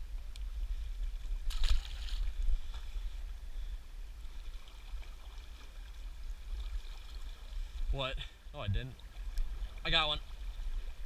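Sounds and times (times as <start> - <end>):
rushing river water: 1.0 - 11.0.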